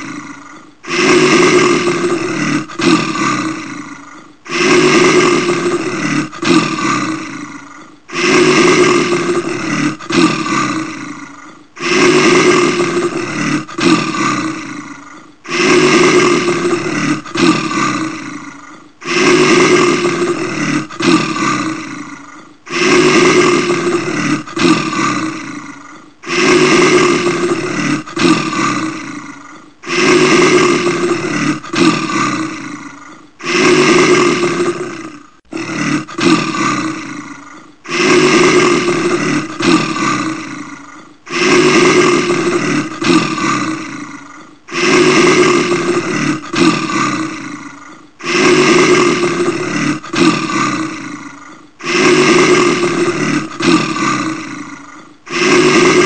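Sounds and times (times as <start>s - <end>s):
bear roaring: 0.0s - 56.0s.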